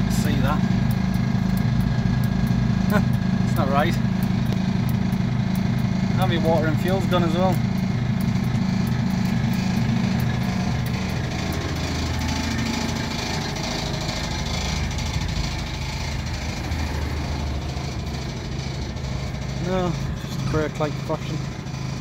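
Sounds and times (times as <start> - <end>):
van engine idling: 0.0 - 22.0.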